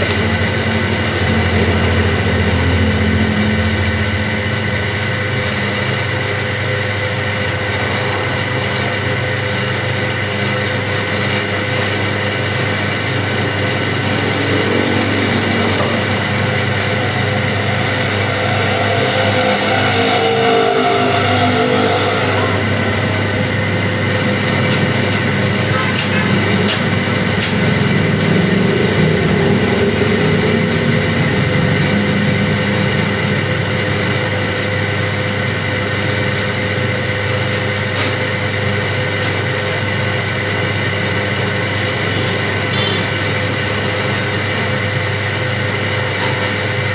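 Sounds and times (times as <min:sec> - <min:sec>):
machine humming: 0:00.0 - 0:46.9.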